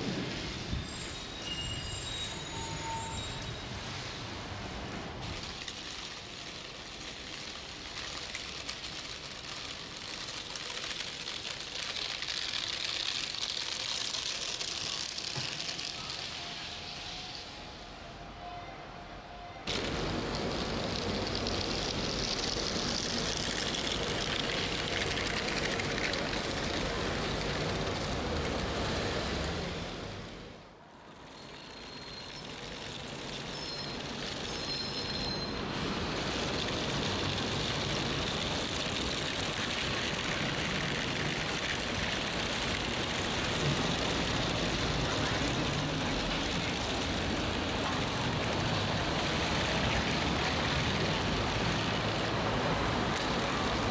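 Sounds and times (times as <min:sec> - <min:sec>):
street traffic hiss: 0:00.0 - 0:53.9.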